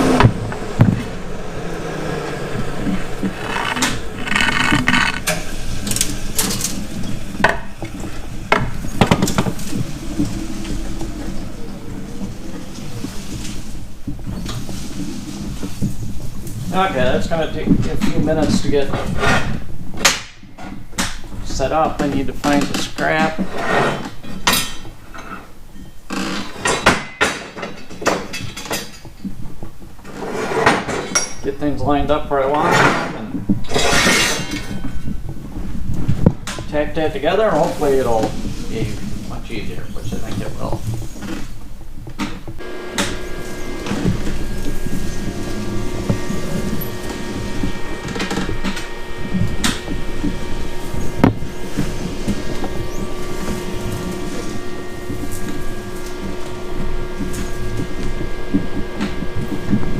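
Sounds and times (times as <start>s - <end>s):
scrap steel clanking: 0.0s - 19.8s, 30.1s - 59.9s.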